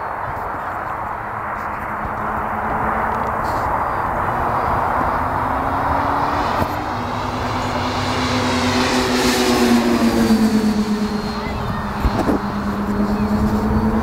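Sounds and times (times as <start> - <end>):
model plane engines droning: 0.0 - 14.0.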